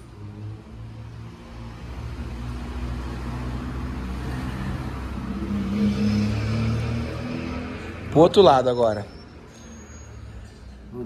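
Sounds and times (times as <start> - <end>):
vehicle engine rumbling past: 0.0 - 11.0.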